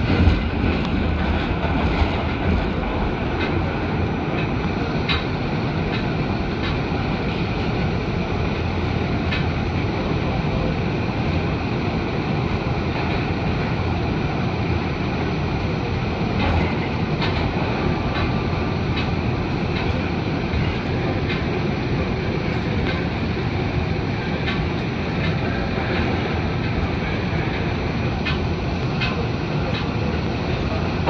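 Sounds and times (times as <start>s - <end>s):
subway wheels rumbling on rails: 0.0s - 31.0s.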